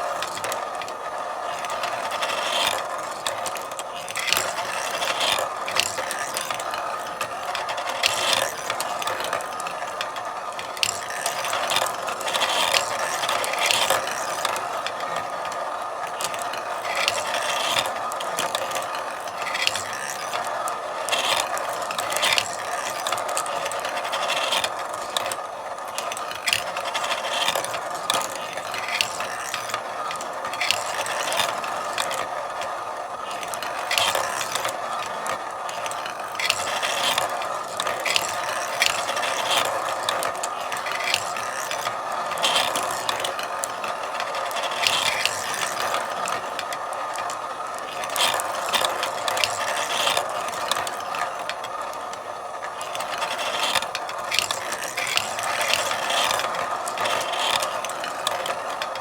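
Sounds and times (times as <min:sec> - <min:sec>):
marbles rolling on a track: 0:00.0 - 0:59.0.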